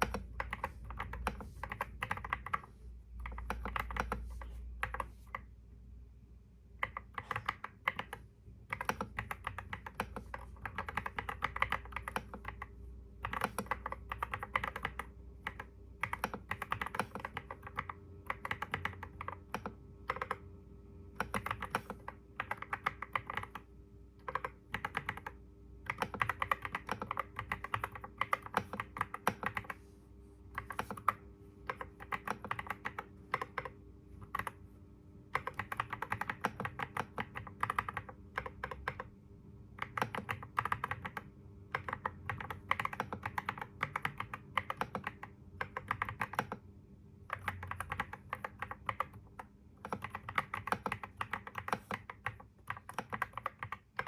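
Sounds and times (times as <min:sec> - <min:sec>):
typing on a computer keyboard: 0:00.0 - 0:05.5, 0:06.8 - 0:20.5, 0:21.1 - 0:29.9, 0:30.5 - 0:34.6, 0:35.3 - 0:54.0.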